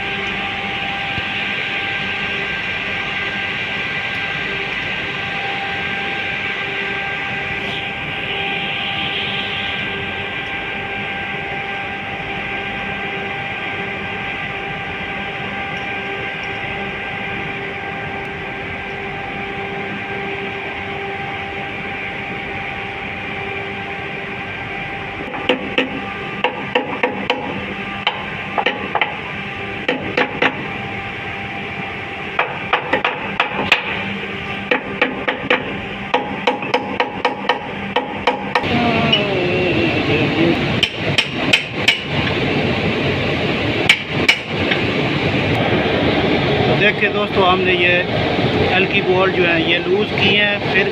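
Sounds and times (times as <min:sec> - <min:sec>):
machinery humming: 0:00.0 - 0:50.9.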